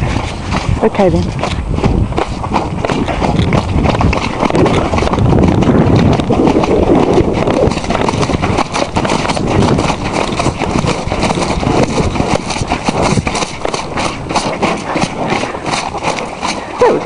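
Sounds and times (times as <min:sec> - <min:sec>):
horse hoofbeats on grass: 0:00.0 - 0:17.0.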